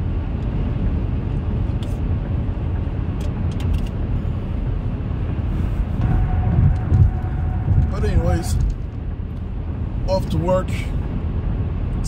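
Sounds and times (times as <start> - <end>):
car engine cabin rumble: 0.0 - 12.0.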